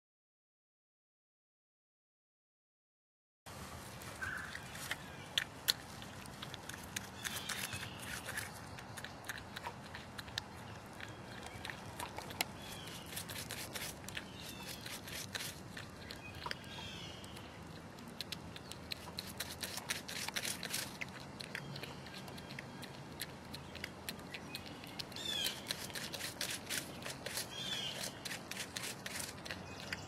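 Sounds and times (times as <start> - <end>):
porcupine chewing an apple: 3.5 - 30.0.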